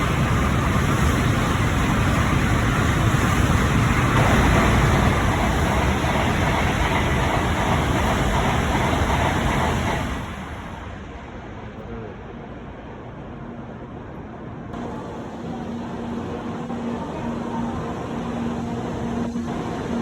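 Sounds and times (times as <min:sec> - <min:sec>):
bullet train passing at speed: 0:00.0 - 0:20.0.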